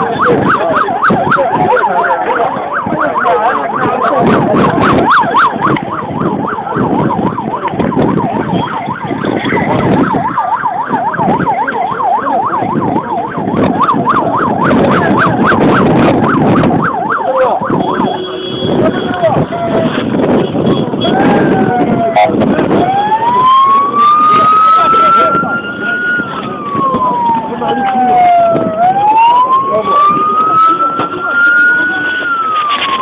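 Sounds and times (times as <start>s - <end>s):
crowd commotion: 0.0s - 33.0s
emergency siren yelping: 0.0s - 33.0s.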